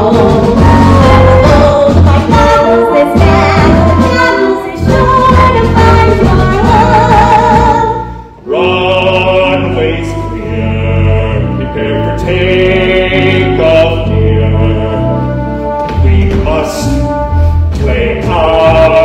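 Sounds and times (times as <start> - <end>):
chorus singing: 0.0 - 19.0
instrumental accompaniment: 0.0 - 19.0.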